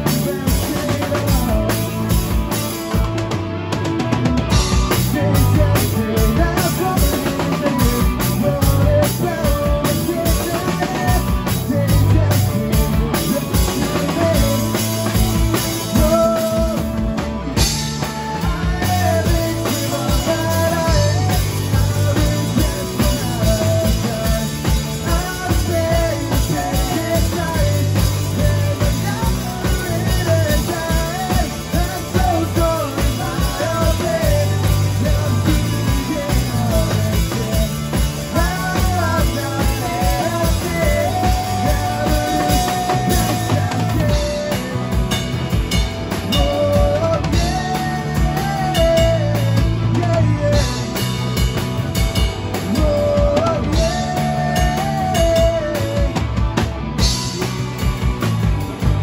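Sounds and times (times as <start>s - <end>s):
live rock band: 0.0s - 59.0s.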